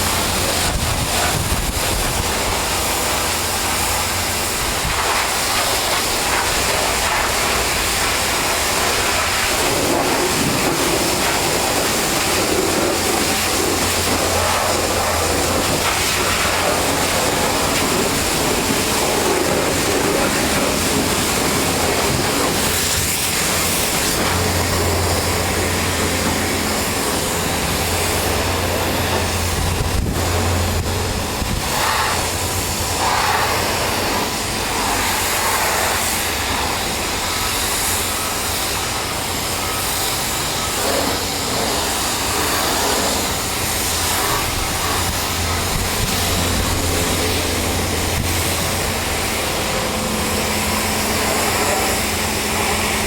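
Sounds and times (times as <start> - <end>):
pressure washer water spray hiss: 0.0 - 53.0
machine hum: 6.3 - 35.4, 36.1 - 53.0.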